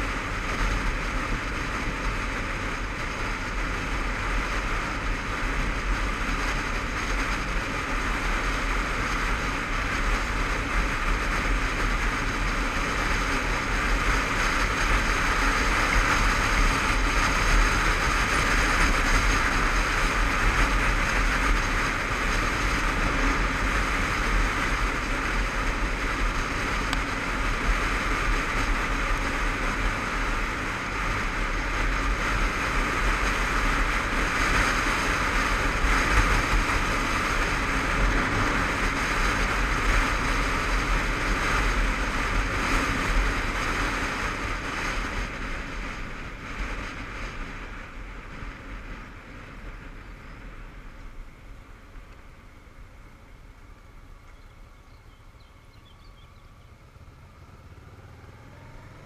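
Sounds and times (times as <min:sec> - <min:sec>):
wind noise over helmet: 0:00.0 - 0:52.8
motorcycle engine running: 0:00.0 - 0:59.0.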